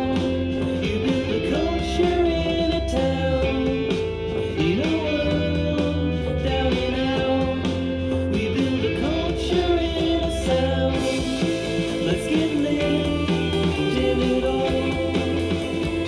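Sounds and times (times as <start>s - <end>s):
rock song with guitar and singing: 0.0s - 16.0s.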